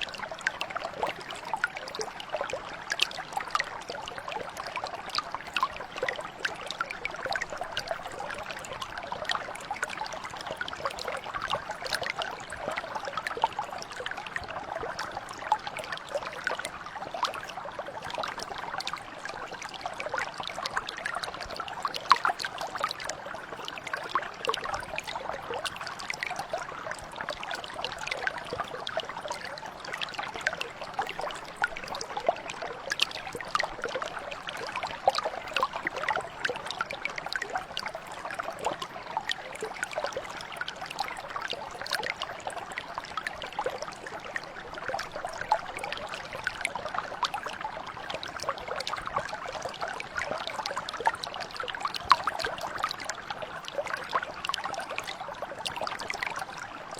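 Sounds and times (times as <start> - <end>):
brook babbling over stones: 0.0 - 56.9.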